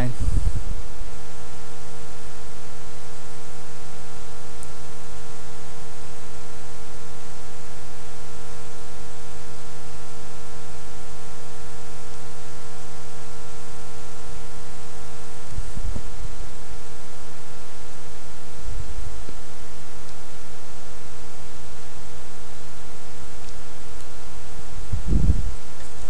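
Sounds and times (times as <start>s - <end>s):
electrical hum and hiss: 0.0s - 26.0s.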